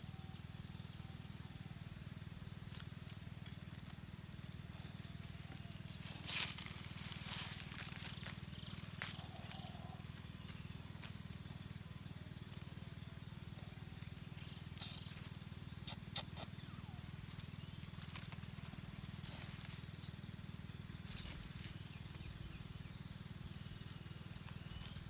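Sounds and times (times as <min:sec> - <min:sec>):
steady low hum: 0:00.0 - 0:25.0
dry leaves crackling and rustling: 0:01.9 - 0:25.0.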